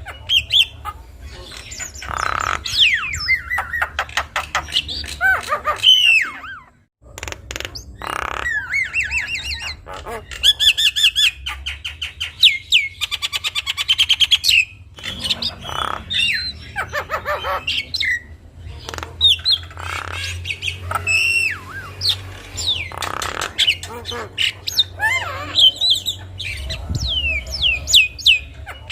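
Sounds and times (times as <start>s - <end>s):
bird harsh squawks: 0.0s - 6.9s, 7.5s - 28.9s.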